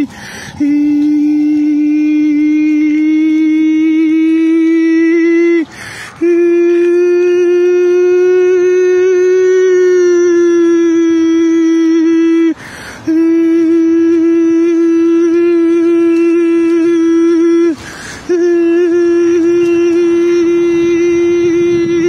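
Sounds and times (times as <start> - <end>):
man singing long high note: 0.0 - 22.0.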